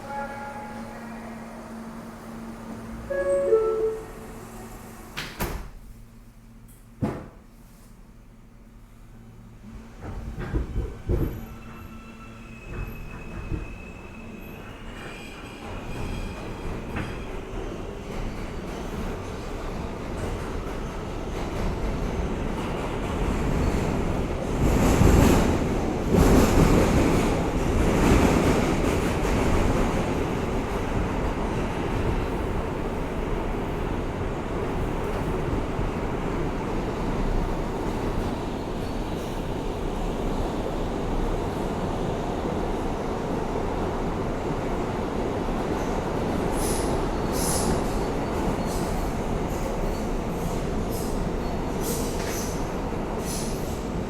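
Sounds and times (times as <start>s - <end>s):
subway wheels rumbling on rail: 0.0s - 54.0s.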